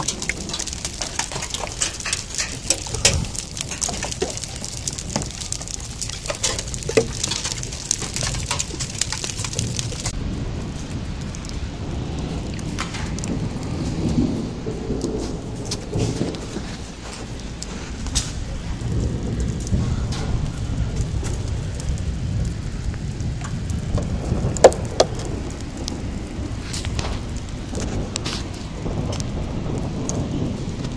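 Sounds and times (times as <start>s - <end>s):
hailstones ticking: 0.0s - 30.9s
low rumble: 0.0s - 30.9s
rain hiss: 0.0s - 30.9s.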